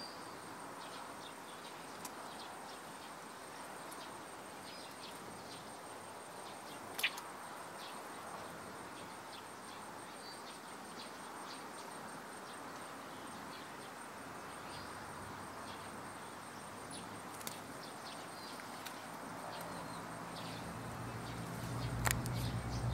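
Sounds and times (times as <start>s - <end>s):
birds and insects chirping: 0.0s - 22.9s.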